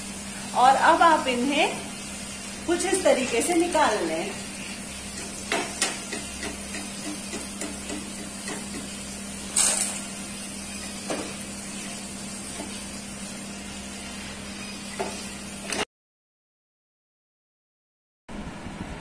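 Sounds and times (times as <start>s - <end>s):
chickpeas sizzling in hot oil: 0.0s - 15.9s.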